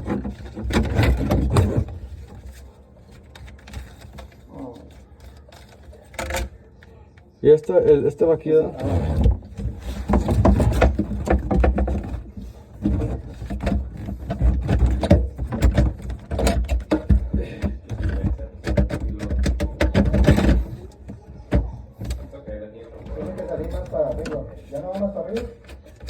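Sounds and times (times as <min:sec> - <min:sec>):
knocks clicks and rattles of parts: 0:00.0 - 0:26.0.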